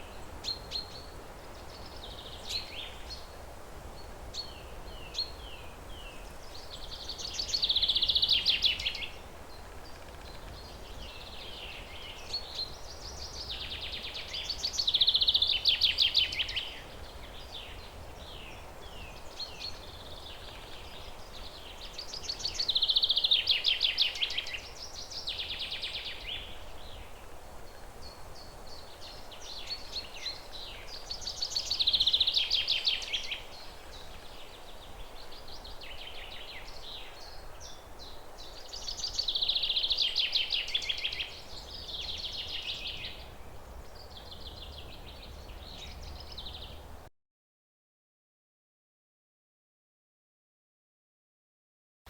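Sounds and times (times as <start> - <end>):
wind in leaves: 0.0 - 47.1.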